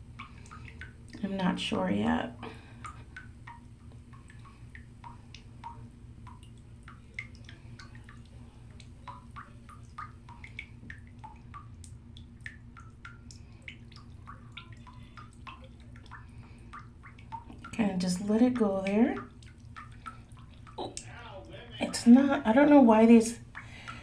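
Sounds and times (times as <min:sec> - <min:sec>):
faucet dripping into bathwater: 0:00.0 - 0:24.0
low steady hum: 0:00.0 - 0:24.0.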